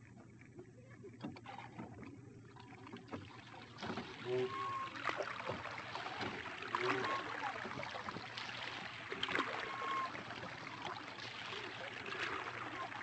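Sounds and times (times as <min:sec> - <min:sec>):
water splashing into pool: 0:02.5 - 0:13.0.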